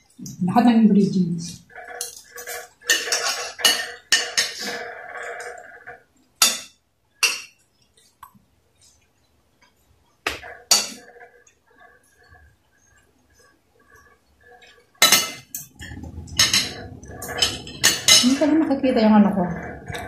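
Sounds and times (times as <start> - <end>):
cutlery scraping on plates: 1.4 - 9.1, 10.3 - 20.0.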